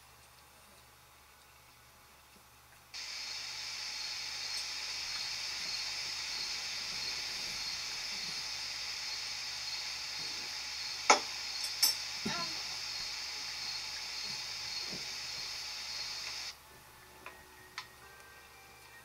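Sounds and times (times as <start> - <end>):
steady hiss: 2.9 - 19.0.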